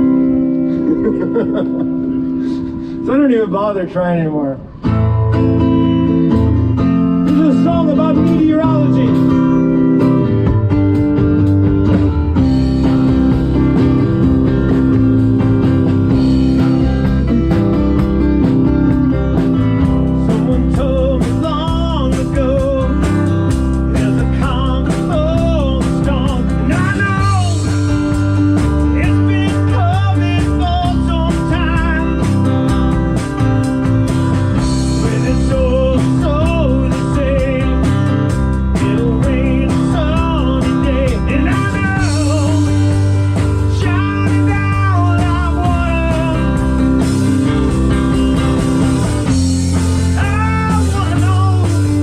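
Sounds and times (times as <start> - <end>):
lead guitar bending notes: 0.0 - 52.0
live rock band playing: 0.0 - 52.0.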